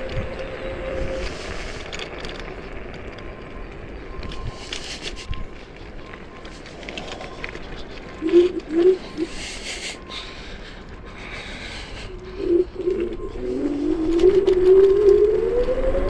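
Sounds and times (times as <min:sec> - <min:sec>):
electric scooter motor whine: 0:00.0 - 0:16.0.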